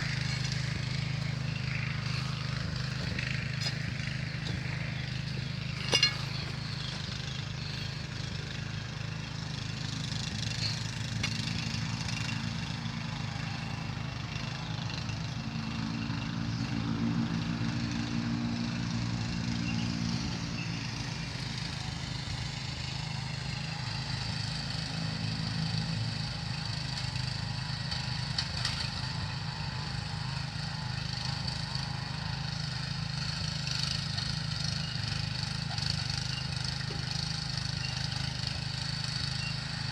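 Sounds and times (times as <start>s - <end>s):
cultivator engine running: 0.0s - 39.9s.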